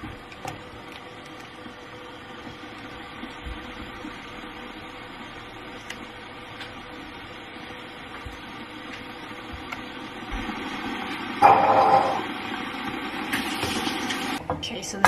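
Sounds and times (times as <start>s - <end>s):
kitchen hum and hiss: 0.0s - 15.0s.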